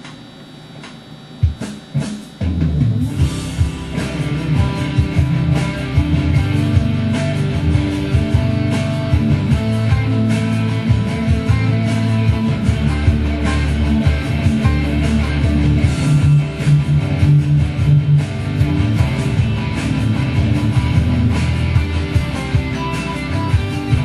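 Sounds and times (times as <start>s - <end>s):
electric guitar riffs: 1.4s - 24.0s.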